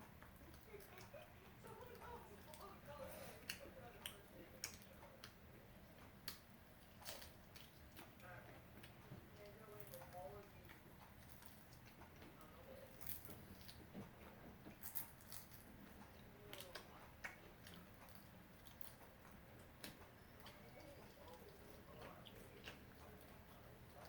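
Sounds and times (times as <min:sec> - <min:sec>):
soft chewing: 0:00.0 - 0:24.0.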